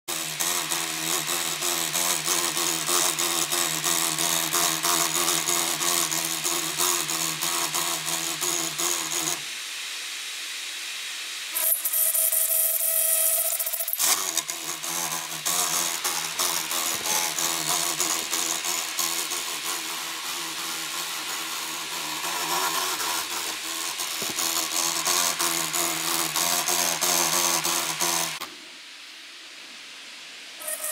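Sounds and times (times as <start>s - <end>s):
laptop fan grinding rattle: 0.1s - 9.4s, 11.6s - 28.5s, 30.6s - 30.9s.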